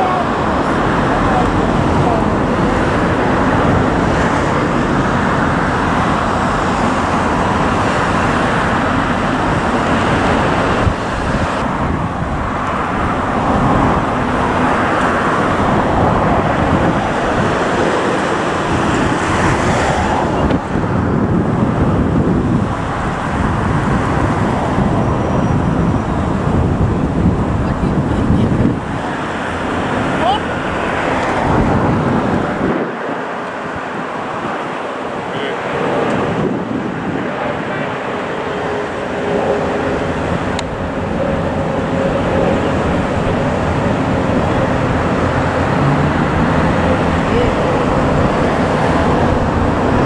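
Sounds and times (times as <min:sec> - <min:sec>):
jet engines at takeoff thrust: 0:00.0 - 0:50.0
steady rushing noise: 0:00.0 - 0:50.0.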